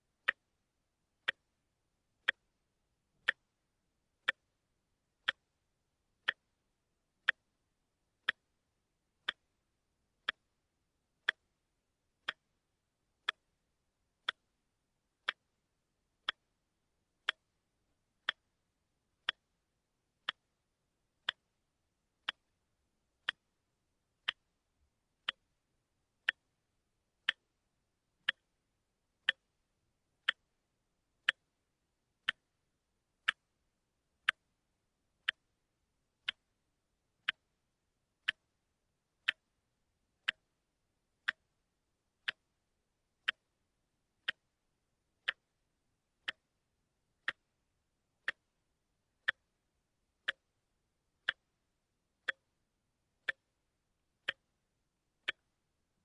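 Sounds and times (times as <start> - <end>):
watch ticking: 0.2 - 0.6, 1.2 - 3.6, 4.2 - 10.6, 11.2 - 26.6, 27.2 - 27.6, 28.2 - 36.6, 37.2 - 55.9.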